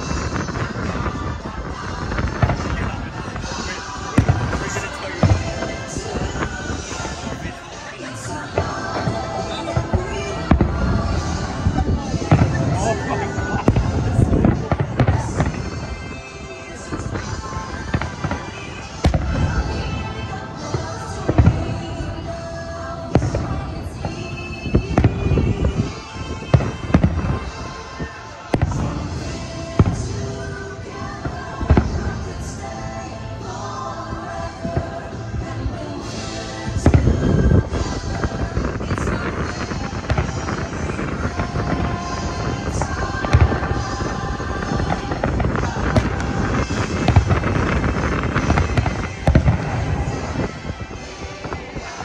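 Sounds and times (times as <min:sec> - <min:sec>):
fireworks bangs and booms: 0:00.0 - 0:52.0
music playing: 0:00.0 - 0:52.0.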